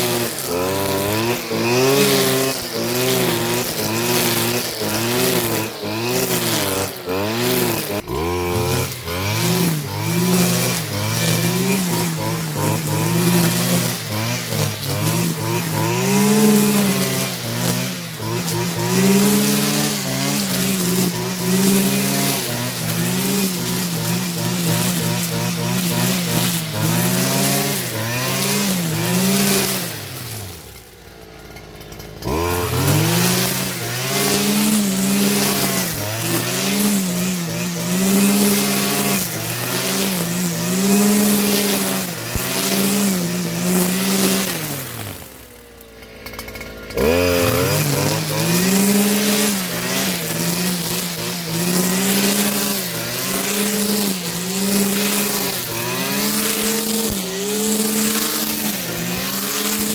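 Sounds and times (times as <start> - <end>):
string trimmer engine cutting grass: 0.0 - 59.9.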